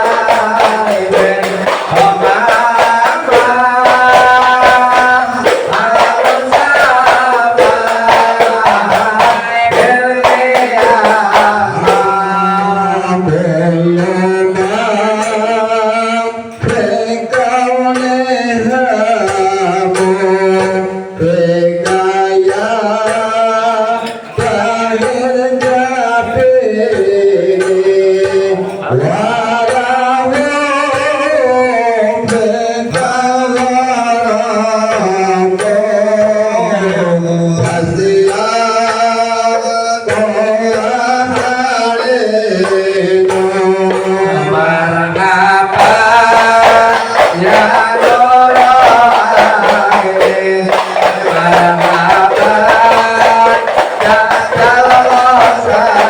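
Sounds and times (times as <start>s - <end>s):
hand drum percussion: 0.0s - 56.0s.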